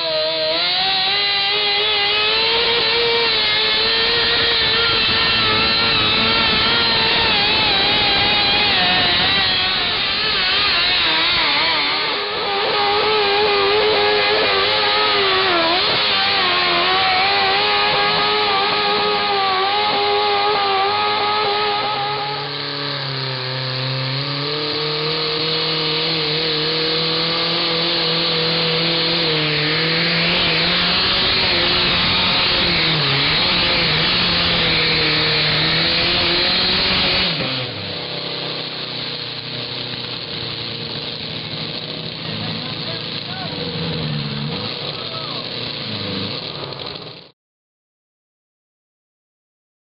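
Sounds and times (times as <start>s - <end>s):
tractor engine revving hard: 0.0s - 47.3s.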